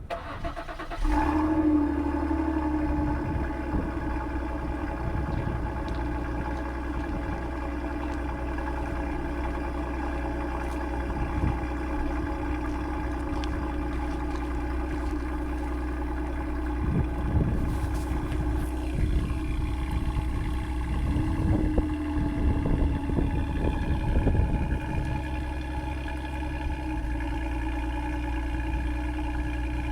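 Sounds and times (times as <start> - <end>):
car engine starting and idling: 0.0 - 29.9.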